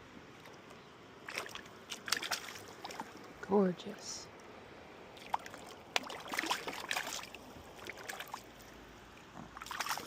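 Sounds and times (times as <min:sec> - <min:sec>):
creek flowing: 0:00.0 - 0:10.0
water splashing and sloshing: 0:00.0 - 0:10.0.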